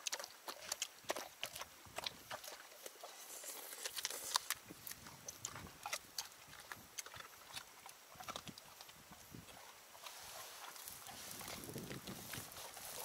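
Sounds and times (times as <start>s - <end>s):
dog chewing and crunching: 0.0s - 13.0s.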